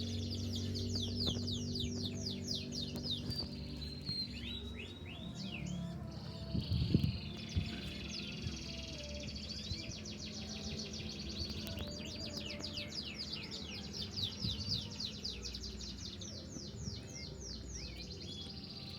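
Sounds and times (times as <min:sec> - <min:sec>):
canary singing trills: 0:00.0 - 0:18.9.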